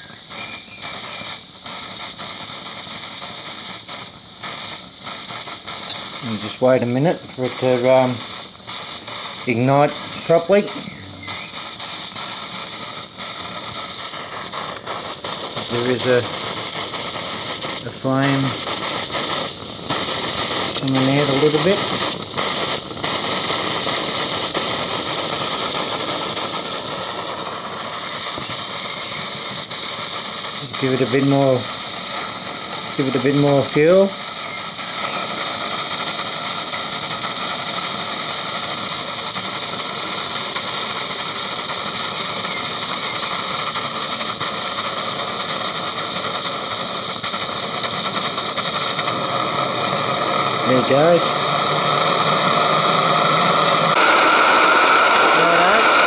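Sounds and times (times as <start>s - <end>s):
pressure burner hissing: 0.0s - 56.0s.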